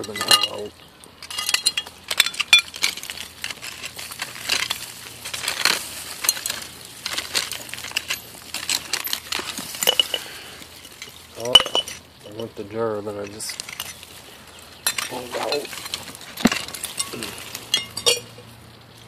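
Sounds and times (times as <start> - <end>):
broken glass clinking: 0.0 - 12.1, 14.8 - 18.5.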